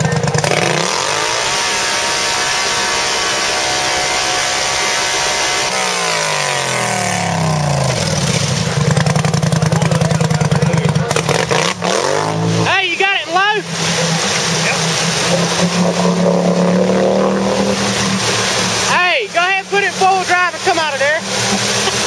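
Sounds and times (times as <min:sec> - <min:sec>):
four-wheeler engine at high revs: 0:00.0 - 0:22.0
tires spinning in mud: 0:00.0 - 0:22.0.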